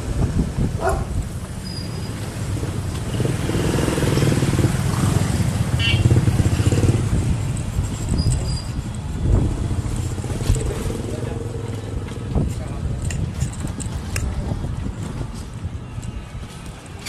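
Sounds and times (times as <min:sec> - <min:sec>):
rumble of riding a bike: 0:00.0 - 0:17.0
wind buffeting microphone: 0:00.0 - 0:17.0.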